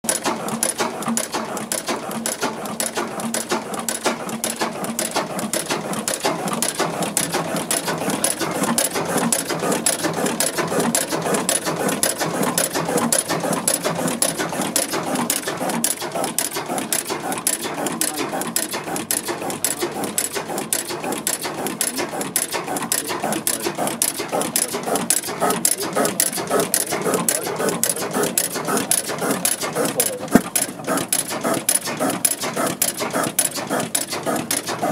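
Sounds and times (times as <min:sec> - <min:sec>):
stationary engine clattering: 0:00.1 - 0:34.9.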